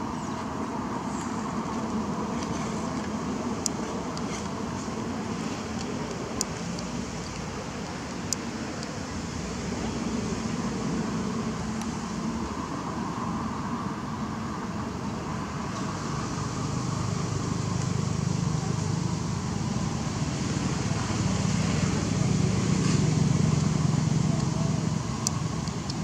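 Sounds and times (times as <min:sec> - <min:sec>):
low steady drone: 0:00.0 - 0:26.0.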